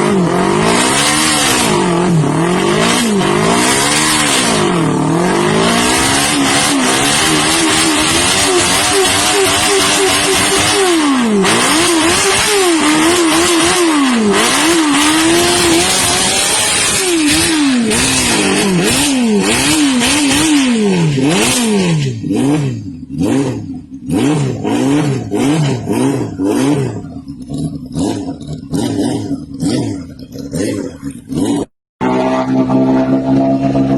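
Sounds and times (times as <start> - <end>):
small motorcycle engine revving: 0.0 - 33.9.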